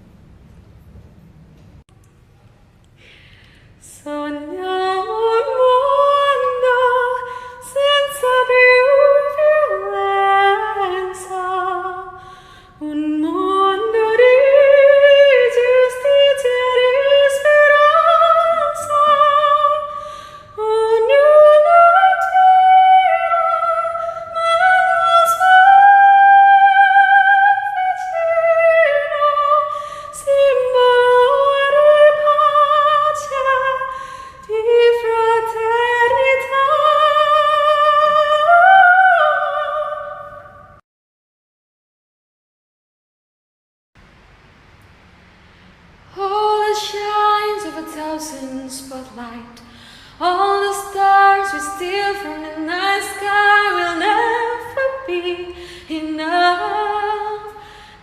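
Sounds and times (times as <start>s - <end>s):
woman singing unaccompanied: 3.8s - 12.2s, 12.8s - 40.6s, 46.1s - 57.6s.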